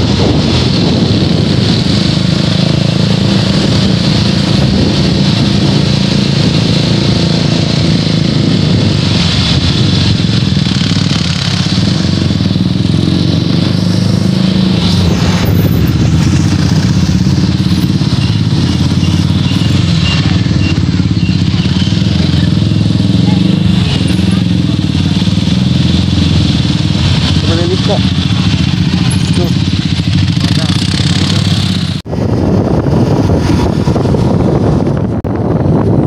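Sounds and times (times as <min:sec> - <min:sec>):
motorcycle engine running: 0:00.0 - 0:36.0
road noise: 0:00.0 - 0:36.0
wind noise: 0:00.0 - 0:36.0.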